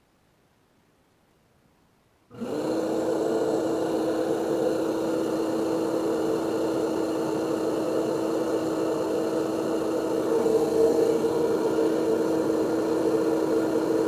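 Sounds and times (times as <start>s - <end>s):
fan whirring: 2.3s - 14.0s
refrigerator motor hum: 2.3s - 14.0s.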